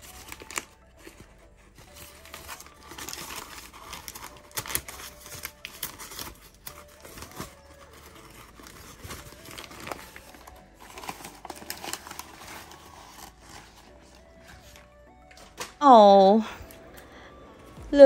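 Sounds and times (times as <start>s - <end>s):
paper crumpling and rustling: 0.0s - 15.8s.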